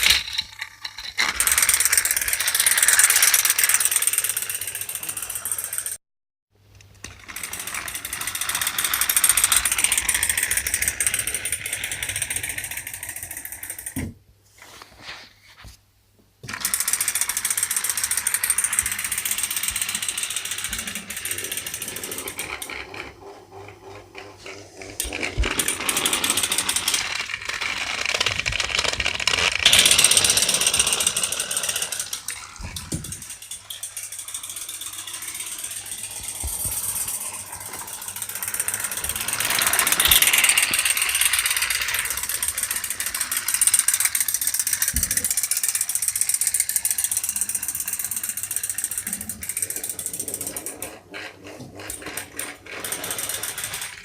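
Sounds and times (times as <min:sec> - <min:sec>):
toy train motors whirring: 0:00.0 - 0:06.0, 0:06.9 - 0:14.0, 0:16.5 - 0:54.0.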